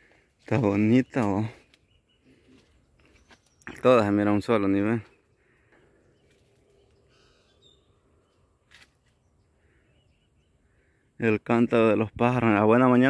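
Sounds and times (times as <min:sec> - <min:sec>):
distant bird calls: 0:00.0 - 0:11.2.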